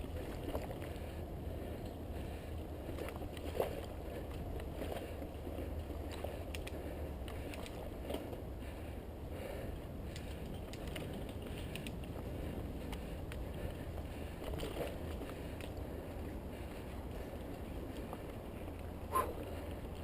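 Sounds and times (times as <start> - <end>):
bike clicks and rattles: 0.0 - 20.0
wind rumble on microphone: 0.0 - 20.0.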